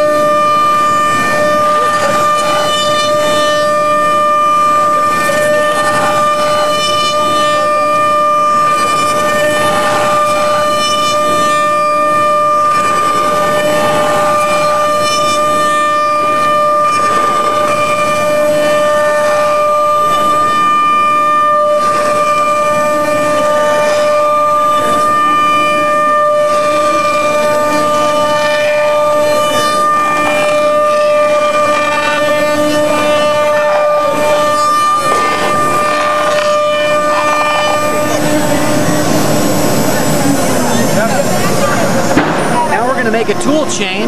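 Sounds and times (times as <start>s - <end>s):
router bit cutting material: 0.0s - 44.0s
router spindle whine: 0.0s - 44.0s.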